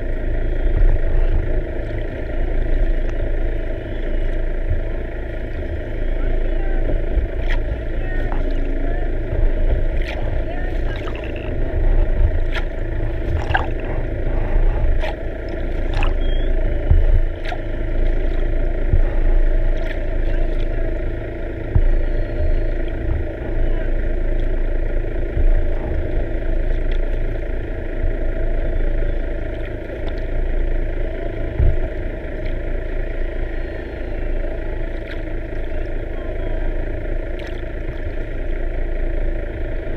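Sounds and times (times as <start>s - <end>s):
boat motor heard underwater: 0.0s - 39.9s.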